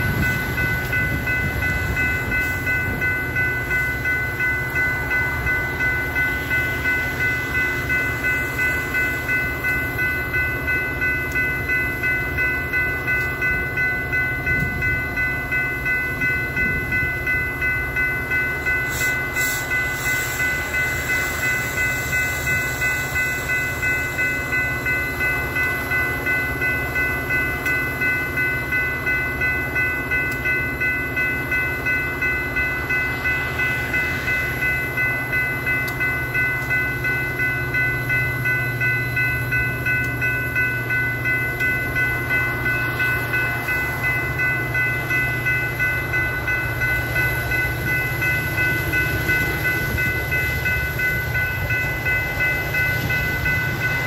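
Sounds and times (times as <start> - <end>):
crossing warning bells ringing: 0.0 - 54.0
train rumbling: 0.0 - 54.0.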